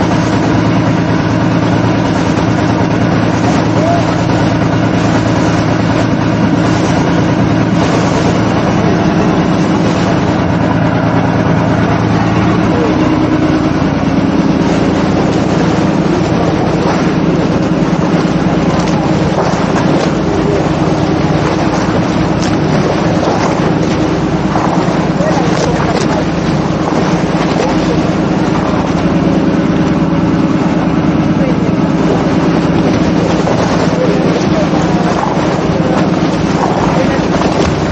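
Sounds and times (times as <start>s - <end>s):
boat motor running: 0.0s - 37.9s
boat wake rushing water: 0.0s - 37.9s.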